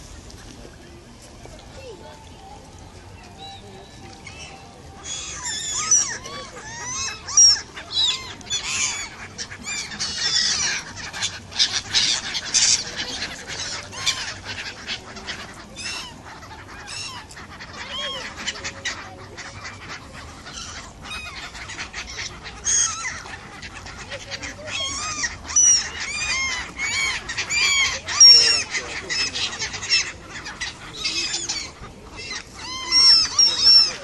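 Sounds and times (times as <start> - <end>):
gulls calling: 0.0 - 34.0.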